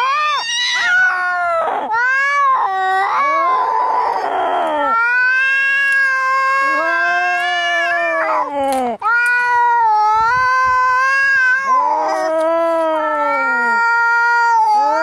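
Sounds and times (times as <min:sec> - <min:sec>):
cats yowling in a fight: 0:00.0 - 0:15.0.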